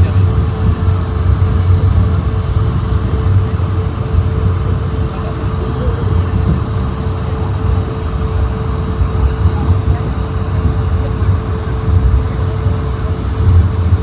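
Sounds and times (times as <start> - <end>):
deep rumble of aircraft engines: 0.0 - 14.0
steady cabin hum: 0.0 - 14.0.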